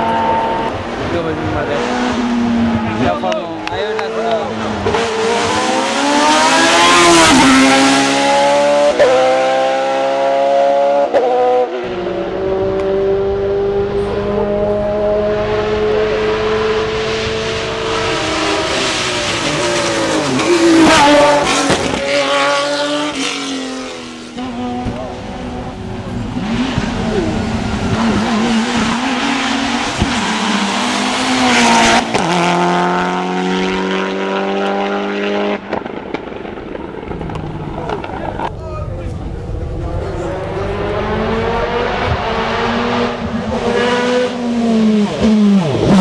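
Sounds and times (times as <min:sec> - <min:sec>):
race car engines revving: 0:00.0 - 0:46.0.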